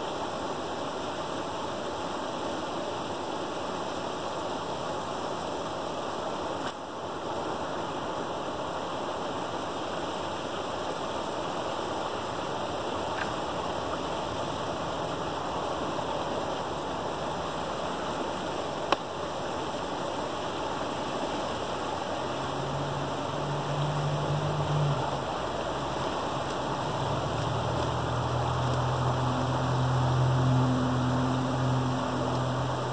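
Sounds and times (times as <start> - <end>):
water rushing over dam: 0.0 - 32.9.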